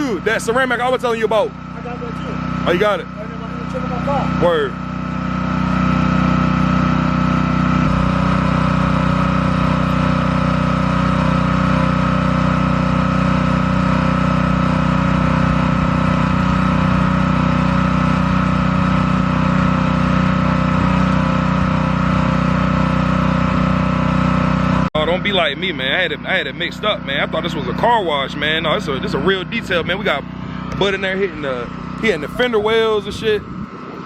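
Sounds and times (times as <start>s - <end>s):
pressure washer engine running: 0.0s - 34.0s.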